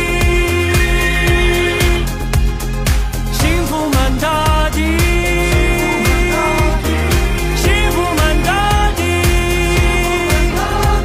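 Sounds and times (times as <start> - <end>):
man singing: 0.0 - 2.6, 3.2 - 11.0
pop band with drum beat: 0.0 - 11.0.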